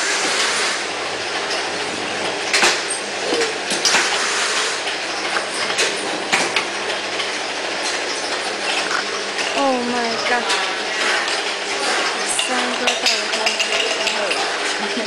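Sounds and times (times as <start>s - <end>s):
filling machine running: 0.0s - 15.0s
machine clicks and clacks: 1.4s - 15.0s.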